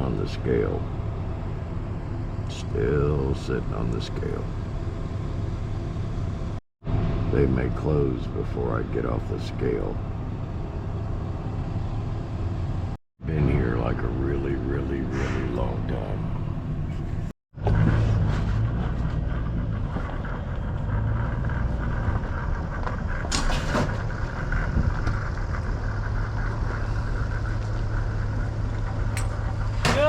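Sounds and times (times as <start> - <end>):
vehicle engine idling: 0.0 - 6.6, 7.3 - 30.0.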